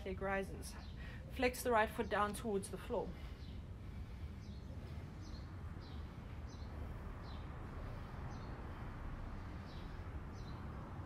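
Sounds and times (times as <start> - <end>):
low background rumble: 1.8 - 11.0.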